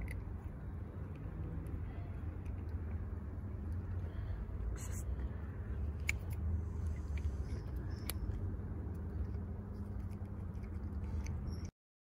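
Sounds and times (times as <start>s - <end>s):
cat chewing dry kibble: 0.0s - 11.7s.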